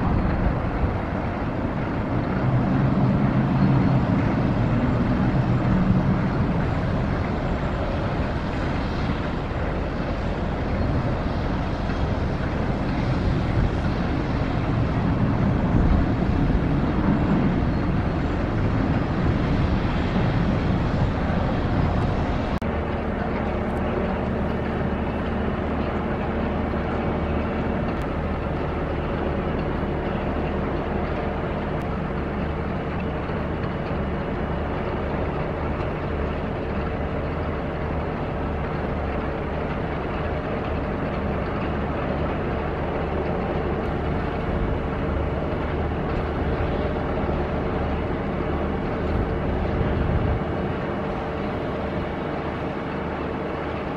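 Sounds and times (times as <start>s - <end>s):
ship diesel engine running: 0.0s - 53.9s.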